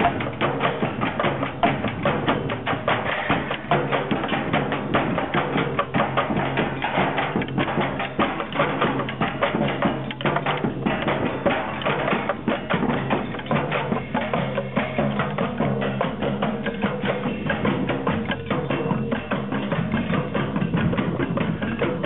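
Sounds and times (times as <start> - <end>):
percussion ensemble drumming: 0.0 - 22.0.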